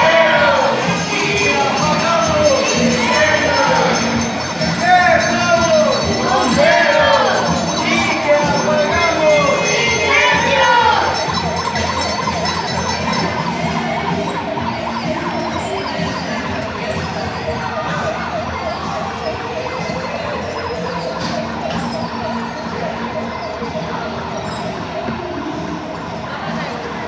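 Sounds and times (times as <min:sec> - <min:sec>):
toy fire truck siren warbling: 0:00.0 - 0:27.0.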